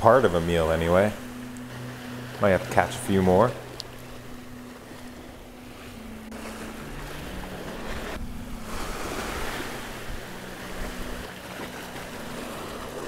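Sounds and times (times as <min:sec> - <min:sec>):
surf washing over rocks: 0:00.0 - 0:13.0.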